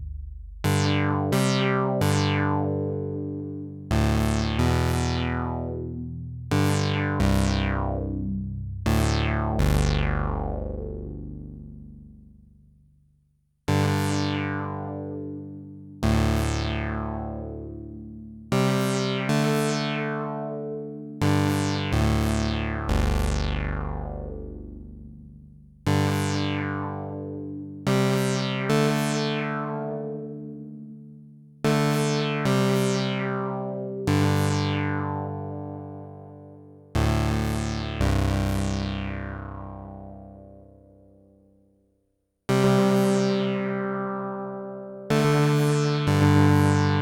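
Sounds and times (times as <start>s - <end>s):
synthesizer notes and chords: 0.0s - 12.4s, 13.7s - 41.2s, 42.5s - 47.0s.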